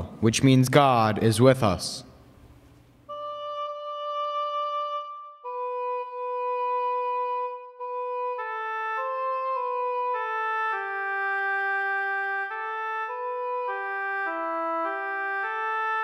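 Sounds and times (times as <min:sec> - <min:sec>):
slow woodwind-like instrumental music: 0:03.1 - 0:16.0.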